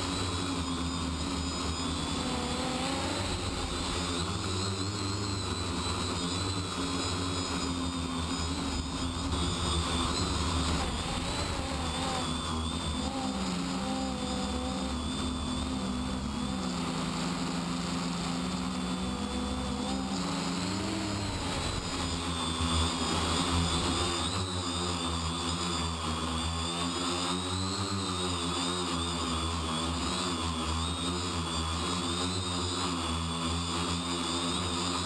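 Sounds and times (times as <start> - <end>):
quadcopter motors whirring: 0.0 - 35.0.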